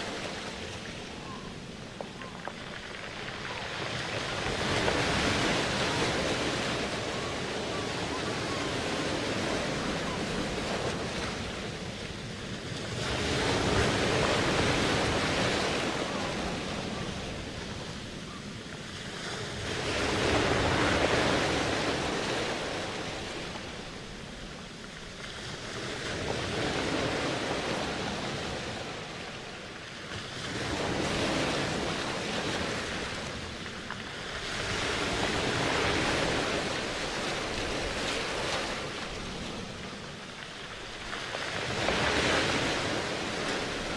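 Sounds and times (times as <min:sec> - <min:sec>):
ocean waves washing in: 0:00.0 - 0:43.9.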